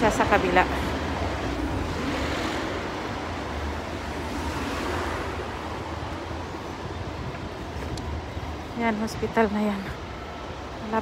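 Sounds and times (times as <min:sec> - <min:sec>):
cars driving past: 0:00.0 - 0:09.3
low road rumble: 0:00.0 - 0:11.0.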